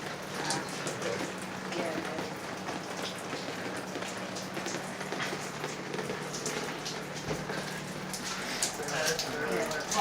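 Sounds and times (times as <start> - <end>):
water dripping and splashing: 0.0 - 10.0.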